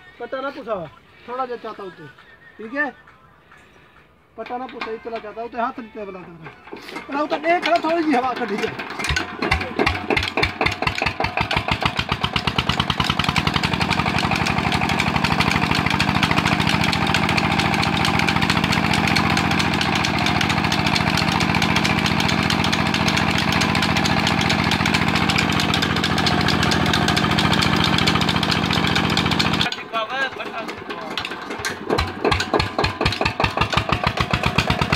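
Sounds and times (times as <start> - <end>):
diesel engine running: 6.4 - 34.9.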